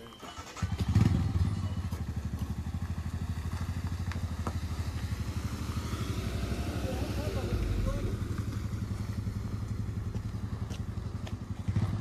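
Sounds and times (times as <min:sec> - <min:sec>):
motorcycle engine idling: 0:00.3 - 0:12.0.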